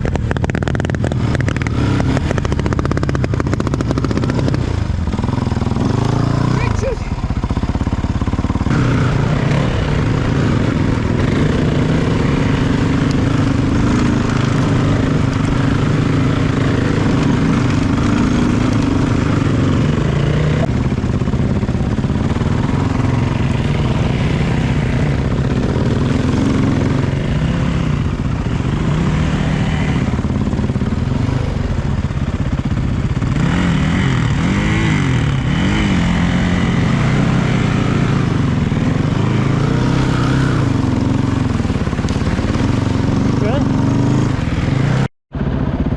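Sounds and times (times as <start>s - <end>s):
off-road vehicle engine revving: 0.0s - 7.2s, 7.8s - 32.1s, 33.0s - 45.1s.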